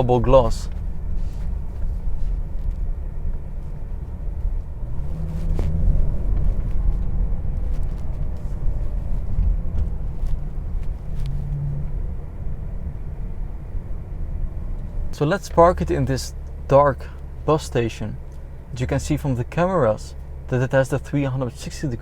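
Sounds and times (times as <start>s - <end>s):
car engine humming: 0.0s - 22.0s
road noise inside car: 0.0s - 22.0s.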